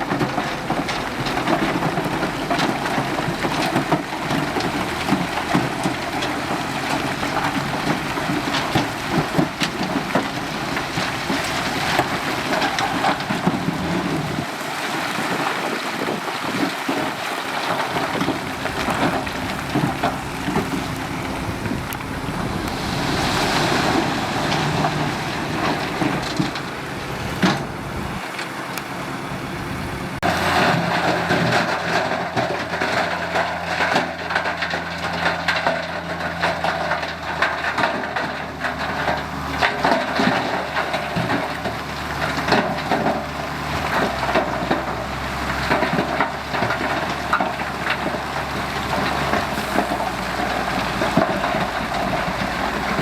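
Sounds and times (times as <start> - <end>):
diesel machinery engine hum: 0.0 - 53.0
soil and stones crunching: 0.0 - 53.0.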